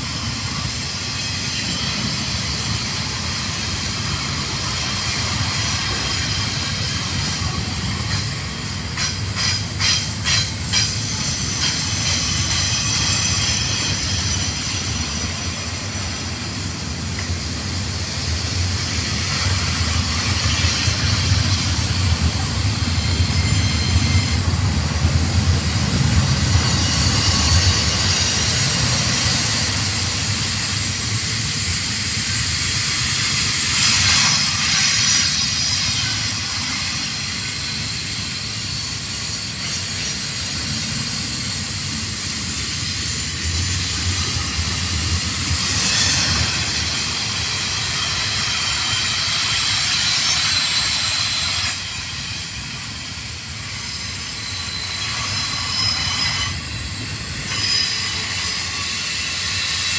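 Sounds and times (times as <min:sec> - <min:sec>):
high wheel squeal: 0:00.0 - 0:16.6, 0:17.4 - 0:59.9
train wheels rumbling on rail: 0:00.0 - 0:59.9.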